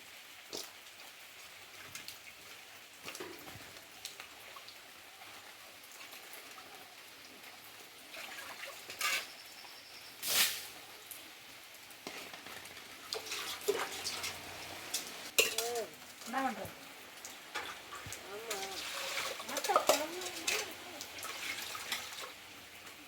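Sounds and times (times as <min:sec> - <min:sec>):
rain pattering: 0:00.0 - 0:23.0
small drips: 0:00.1 - 0:23.0.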